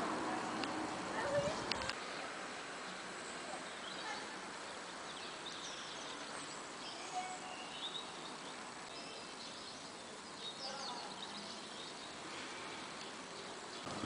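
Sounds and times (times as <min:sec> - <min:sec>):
outdoor background hiss: 0:00.0 - 0:14.0
small birds chirping: 0:00.3 - 0:14.0.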